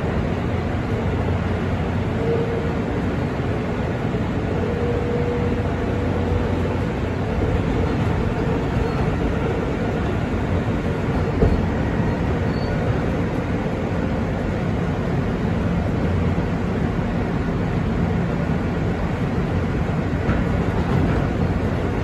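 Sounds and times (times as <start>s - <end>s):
subway car wheels rumbling on rail: 0.0s - 22.0s.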